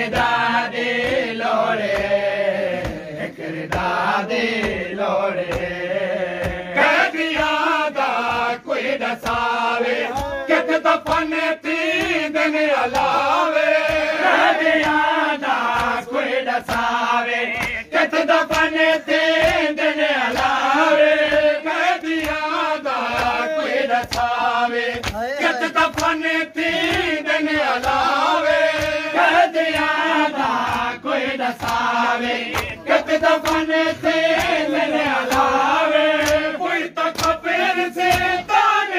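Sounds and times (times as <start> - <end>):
hands slapping chests: 0.0 - 38.9
men chanting melodically: 0.0 - 38.9.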